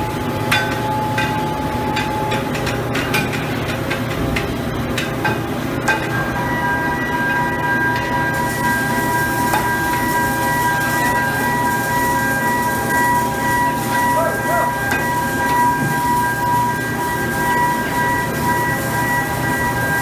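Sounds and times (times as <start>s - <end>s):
high whine: 0.0s - 20.0s.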